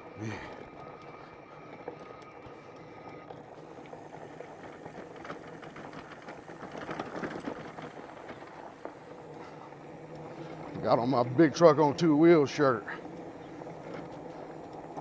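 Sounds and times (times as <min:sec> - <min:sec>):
bike tyres rattling on dirt: 0:00.0 - 0:15.0
faint steady whine: 0:00.0 - 0:15.0.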